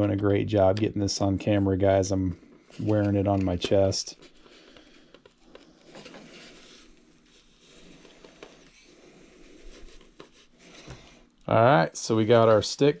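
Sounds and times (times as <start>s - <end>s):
faint rustling of foam parts: 0.0s - 13.0s.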